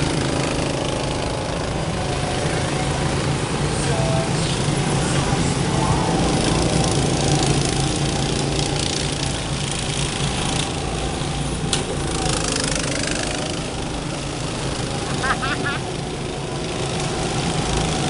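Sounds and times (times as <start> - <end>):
go-kart engines droning: 0.0 - 18.0.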